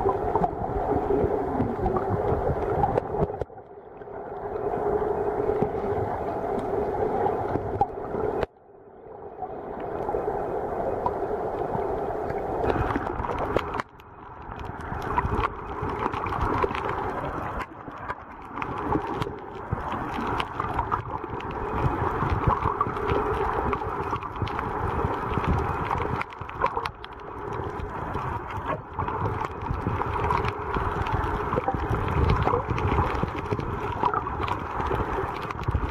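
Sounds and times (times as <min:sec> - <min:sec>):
muffled underwater water wash: 0:00.0 - 0:35.9
water gurgling: 0:00.0 - 0:35.9.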